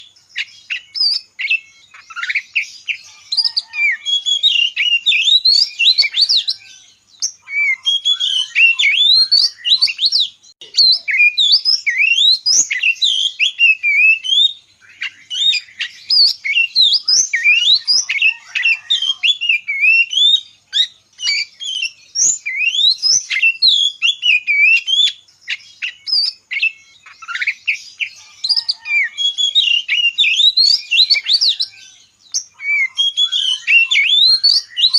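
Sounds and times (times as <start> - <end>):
bird chirping and twittering: 0.0 - 34.9.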